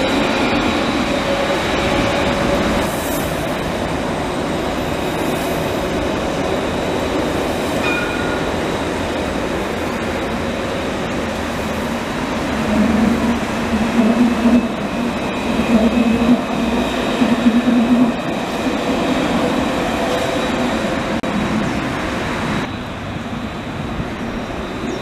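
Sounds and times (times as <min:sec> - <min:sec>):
tram approaching: 0:00.0 - 0:25.0
tram rolling past: 0:00.0 - 0:25.0.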